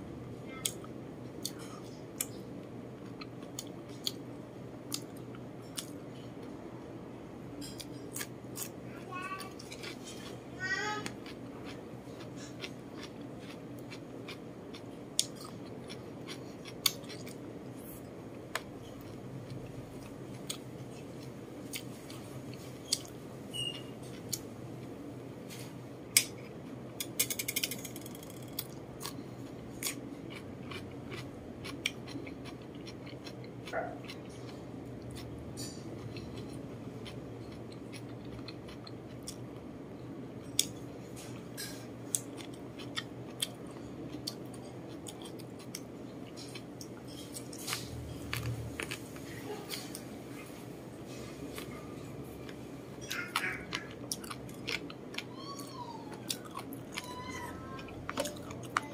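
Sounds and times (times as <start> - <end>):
steady low hum: 0.0 - 58.9
person chewing food: 0.5 - 6.6, 7.6 - 8.8, 9.4 - 58.9.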